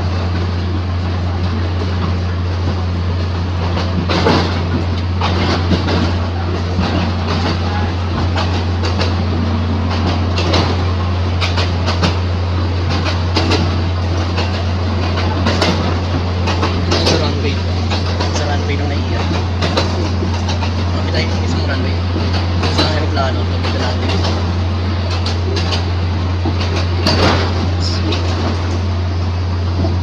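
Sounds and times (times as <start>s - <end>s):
electric train motor hum: 0.0s - 30.0s
train wheels rolling: 0.0s - 30.0s
wheels clacking over rail joints: 1.2s - 30.0s.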